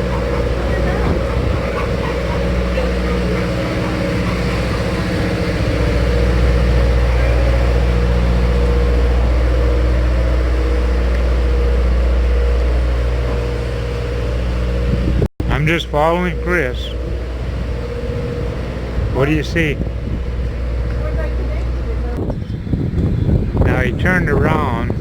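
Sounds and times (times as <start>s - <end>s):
locomotive rumbling: 0.0s - 25.0s.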